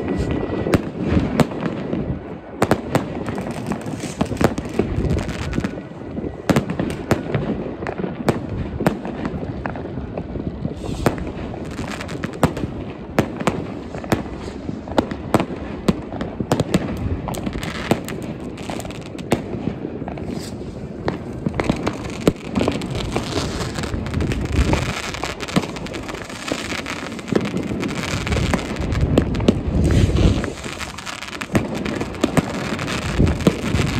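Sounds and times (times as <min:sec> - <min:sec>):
firework bangs and cracks: 0:00.0 - 0:33.9
rumble of explosions and crackling: 0:00.0 - 0:33.9.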